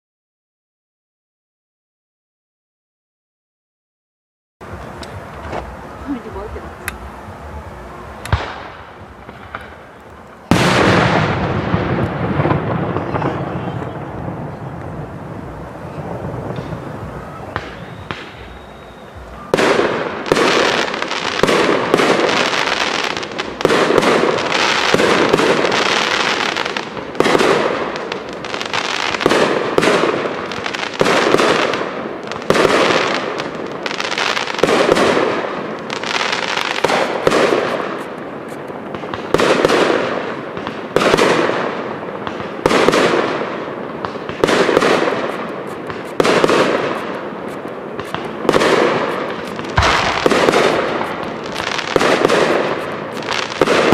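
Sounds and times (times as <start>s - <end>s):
fireworks shots and bursts: 4.6s - 53.9s.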